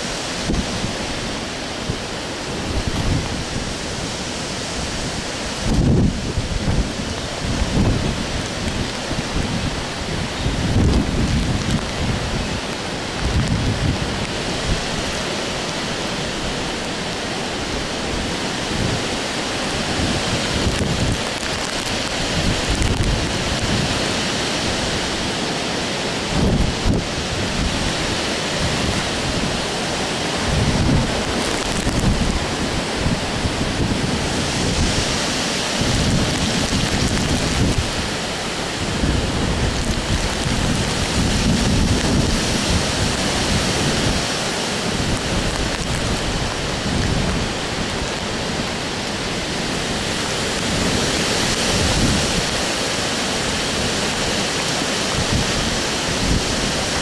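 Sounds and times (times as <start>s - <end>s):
rain: 0.0s - 57.0s
wind blowing through trees: 0.0s - 57.0s
wind buffeting microphone: 0.0s - 57.0s.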